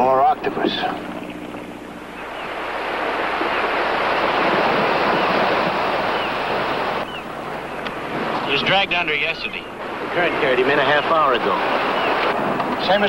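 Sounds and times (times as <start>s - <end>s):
surf breaking on rocky shore: 2.2s - 13.0s.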